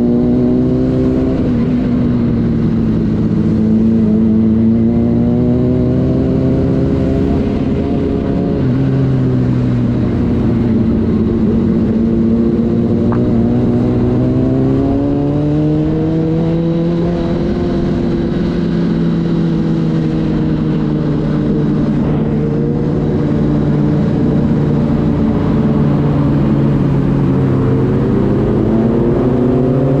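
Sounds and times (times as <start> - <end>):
lower engine note: 0.0 - 30.0
motorcycle engine cruising: 0.0 - 30.0.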